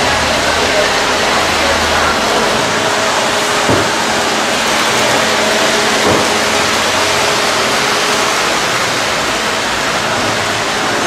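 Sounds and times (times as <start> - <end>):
model trains rushing noise: 0.0 - 11.0.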